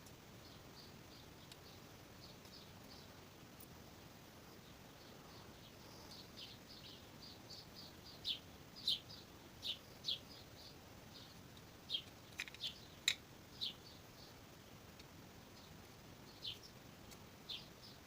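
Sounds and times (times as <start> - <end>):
small bird chirping faintly: 0.0 - 18.0.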